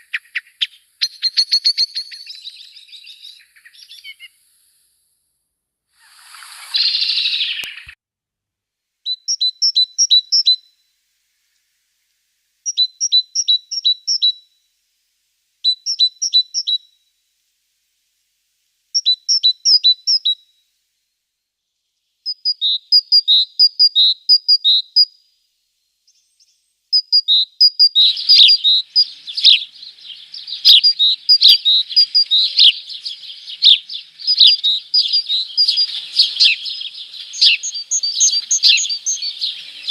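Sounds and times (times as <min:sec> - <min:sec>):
small birds chirping: 0:00.0 - 0:04.9, 0:06.0 - 0:08.0, 0:09.0 - 0:14.6, 0:15.6 - 0:17.1, 0:18.9 - 0:20.6, 0:21.4 - 0:39.9.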